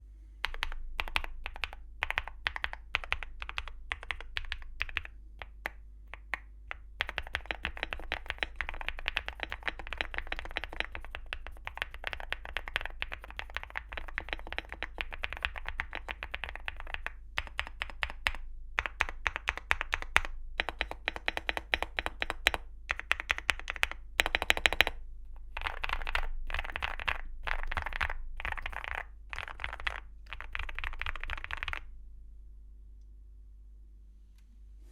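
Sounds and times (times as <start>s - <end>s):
typing on mechanical keyboard: 0.4s - 31.9s.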